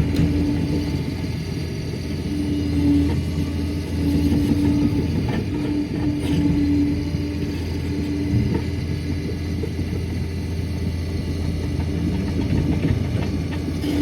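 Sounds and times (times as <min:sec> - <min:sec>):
dozer diesel engine running: 0:00.0 - 0:14.0.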